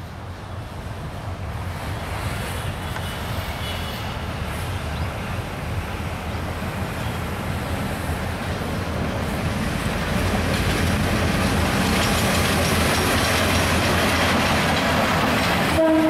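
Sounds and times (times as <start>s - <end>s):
diesel locomotive engine rumble: 0.0s - 16.0s
wheel on rail noise: 0.0s - 16.0s.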